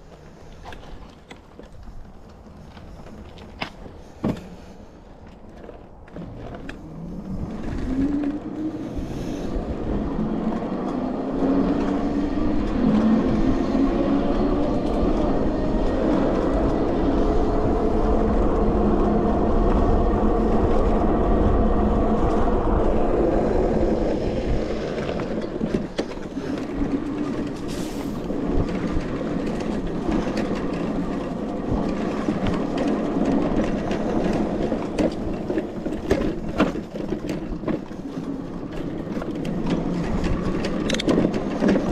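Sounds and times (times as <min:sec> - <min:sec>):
steady low rumble: 0:05.9 - 0:41.9
electric bike motor whining: 0:06.6 - 0:41.9.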